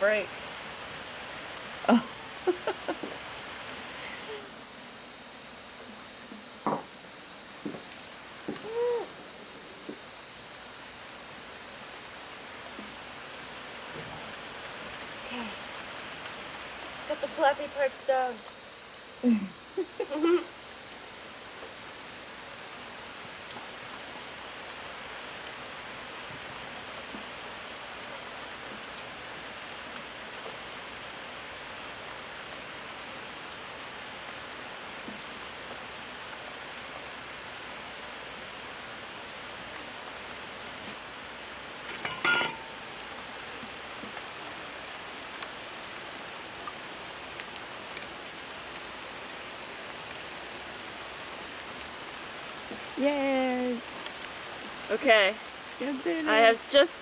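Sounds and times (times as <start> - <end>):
rain hissing on surfaces: 0.0 - 57.0.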